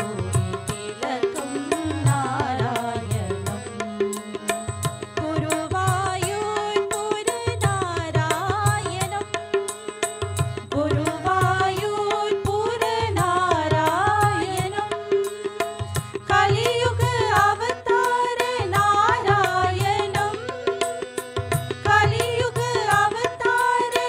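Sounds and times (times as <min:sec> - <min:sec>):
harmonium: 0:00.0 - 0:24.0
tabla rhythm: 0:00.0 - 0:24.0.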